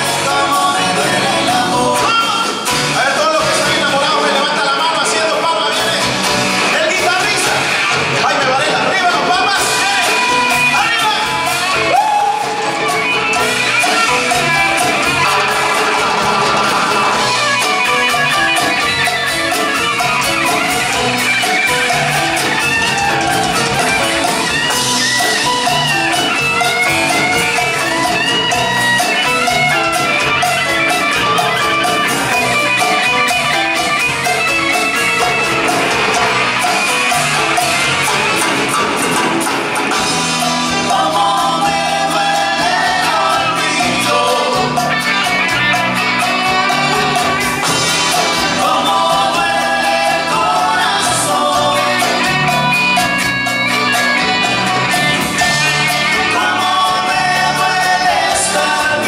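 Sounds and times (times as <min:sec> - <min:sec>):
electric guitar: 0:00.0 - 0:59.0
live rock band playing: 0:00.0 - 0:59.0.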